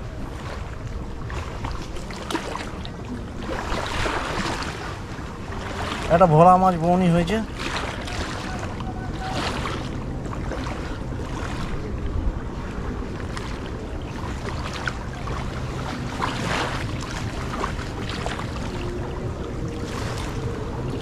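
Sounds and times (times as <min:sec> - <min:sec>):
river water lapping: 0:00.0 - 0:21.0
steady low rumble: 0:00.0 - 0:21.0
wind buffeting microphone: 0:00.0 - 0:21.0.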